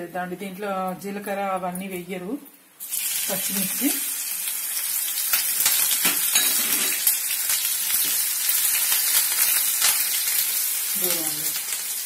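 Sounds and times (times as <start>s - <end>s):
chillies sizzling in hot oil: 0.5s - 12.0s.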